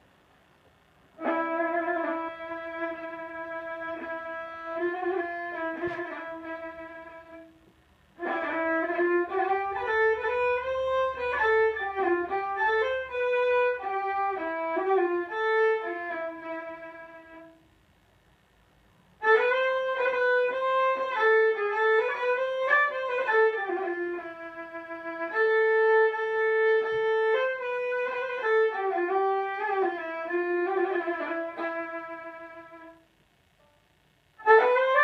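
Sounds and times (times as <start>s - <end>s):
solo violin melody: 1.2s - 17.6s, 19.2s - 33.0s, 34.4s - 35.0s.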